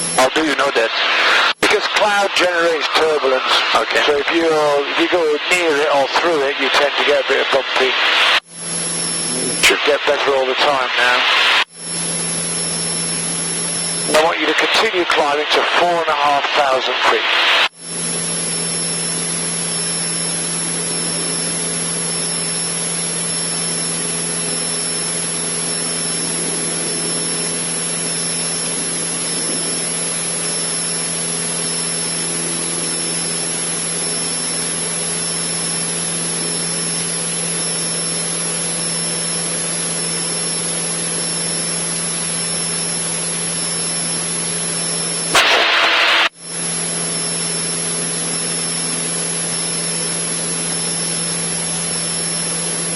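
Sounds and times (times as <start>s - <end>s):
airplane engine droning: 8.0s - 52.9s.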